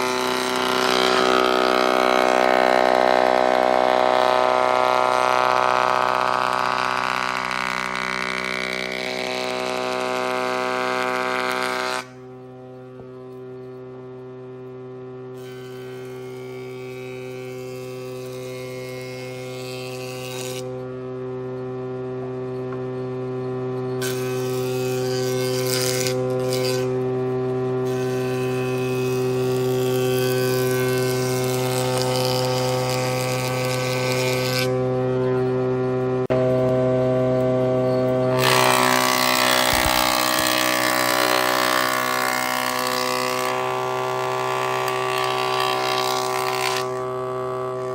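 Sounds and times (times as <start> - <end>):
saw blade cutting wood: 0.0 - 12.4, 15.3 - 20.8, 24.0 - 34.9, 38.0 - 47.9
table saw motor humming: 0.0 - 47.9.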